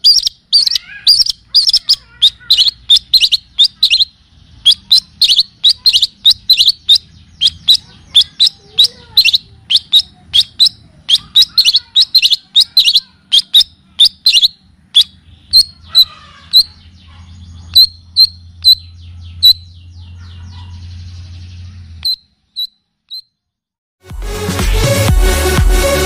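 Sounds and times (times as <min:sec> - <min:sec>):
songbird chirps: 0:00.0 - 0:23.6.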